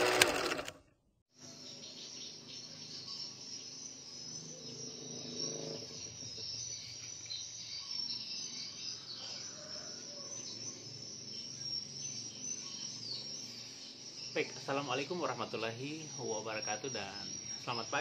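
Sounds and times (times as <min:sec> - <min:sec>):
crickets chirring: 0:01.4 - 0:18.0.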